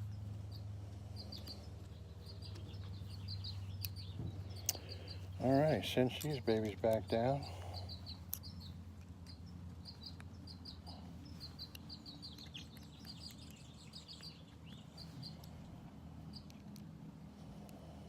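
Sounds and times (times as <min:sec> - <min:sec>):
small bird chirping: 0:00.0 - 0:17.0
steady low hum: 0:00.0 - 0:18.0.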